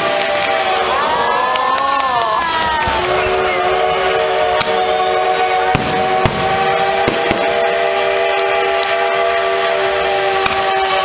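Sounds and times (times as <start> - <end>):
steady horn-like chord: 0.0 - 1.1, 3.1 - 11.0
fireworks bangs: 0.0 - 11.0.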